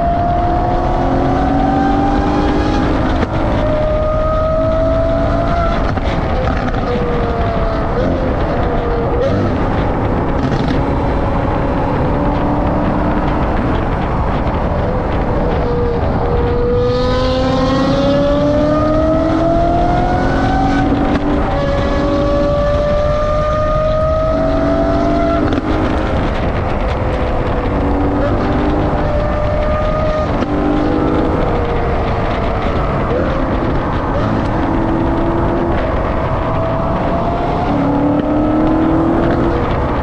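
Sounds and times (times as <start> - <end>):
car exhaust accelerating hard: 0.0 - 40.0
wind and road rush: 0.0 - 40.0.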